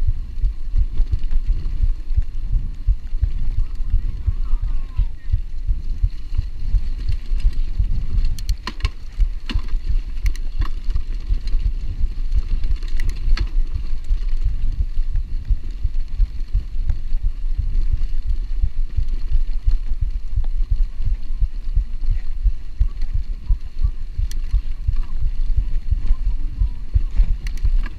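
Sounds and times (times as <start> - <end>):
bike rumbling over bumpy ground: 0.0 - 27.9
wind on microphone: 0.0 - 27.9
bike clicks and rattles: 0.2 - 27.9.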